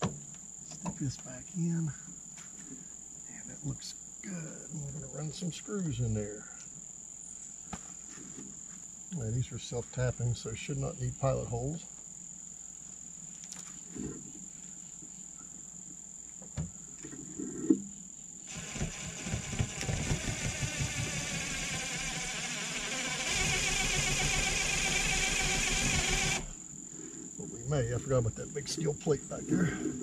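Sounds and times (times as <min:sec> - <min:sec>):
high cricket trill: 0:00.0 - 0:30.0.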